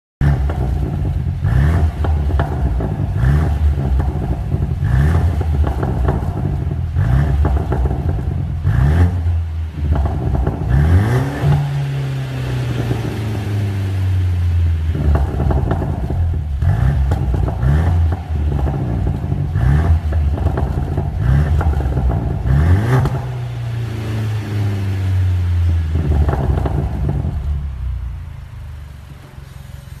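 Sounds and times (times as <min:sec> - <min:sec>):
car engine revving: 0:00.2 - 0:30.0.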